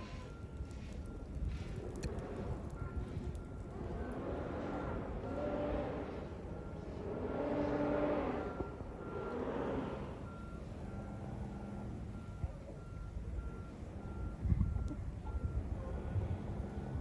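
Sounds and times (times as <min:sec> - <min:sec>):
engine hum: 0:00.0 - 0:17.0
truck reversing alarm beeping: 0:00.0 - 0:17.0.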